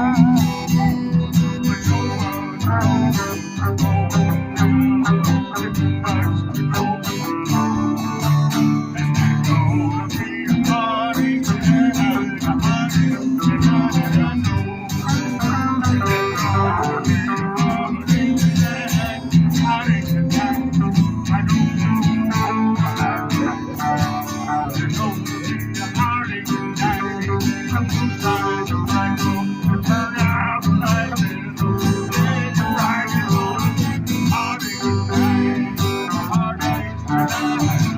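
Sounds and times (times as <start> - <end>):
live band playing: 0.0 - 37.9
strummed acoustic guitar: 0.0 - 37.9.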